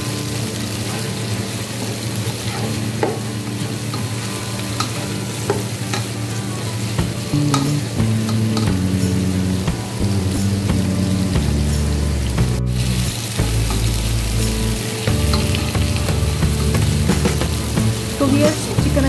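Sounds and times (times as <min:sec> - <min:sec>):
chicken sizzling in oil: 0:00.0 - 0:19.0.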